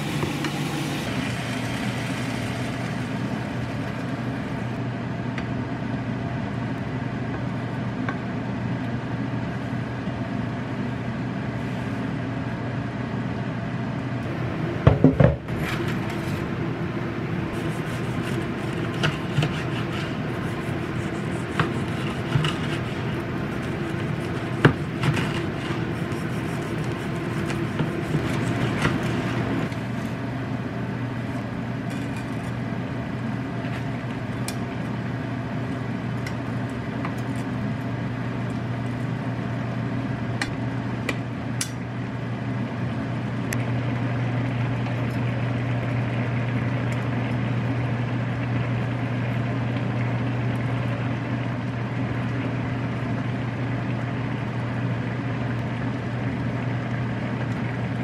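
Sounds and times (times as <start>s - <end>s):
kitchen appliance humming: 0.0s - 11.3s, 14.1s - 58.0s.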